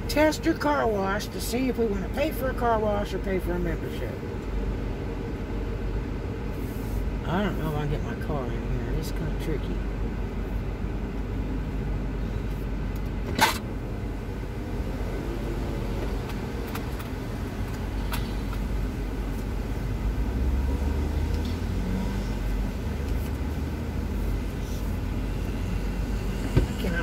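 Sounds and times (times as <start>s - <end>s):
car idling: 0.0s - 27.0s.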